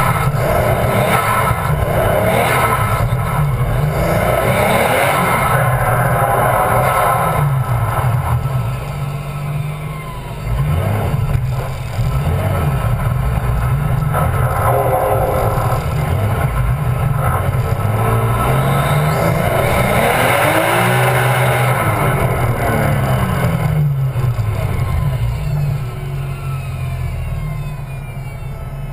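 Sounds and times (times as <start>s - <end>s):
car engine revving hard: 0.0s - 27.6s
tyre and road noise: 0.0s - 28.9s.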